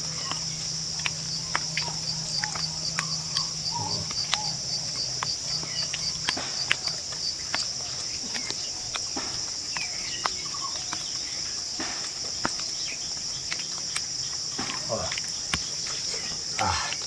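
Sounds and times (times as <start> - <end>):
insects chirring: 0.0 - 17.0
sharp clicks and snaps: 0.0 - 17.0.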